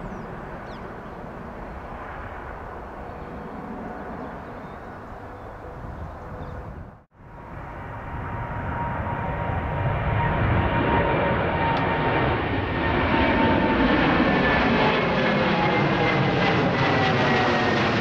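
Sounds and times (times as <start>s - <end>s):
airliner engines rumbling: 0.0s - 18.0s
jet engines climbing: 0.0s - 18.0s.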